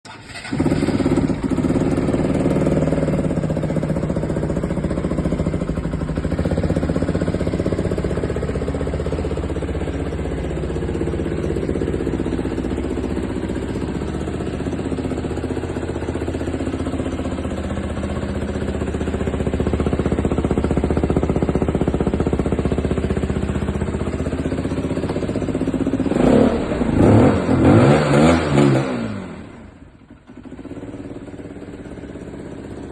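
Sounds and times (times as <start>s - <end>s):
motorcycle engine idling and revving: 0.1s - 32.9s.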